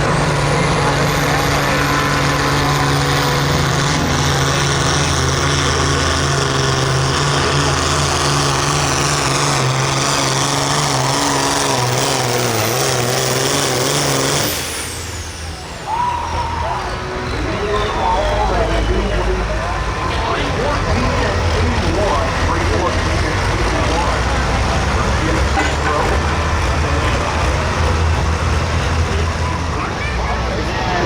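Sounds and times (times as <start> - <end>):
diesel tractor engine running hard: 0.0 - 31.0.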